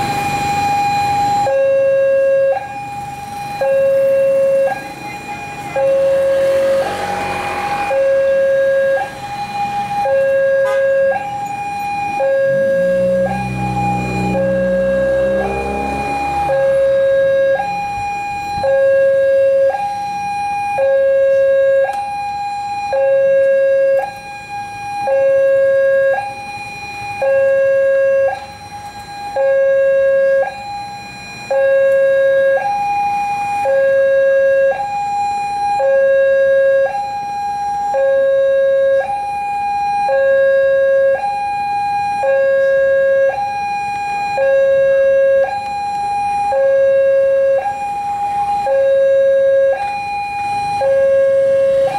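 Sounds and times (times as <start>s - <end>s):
two-tone level crossing siren: 0.0s - 51.9s.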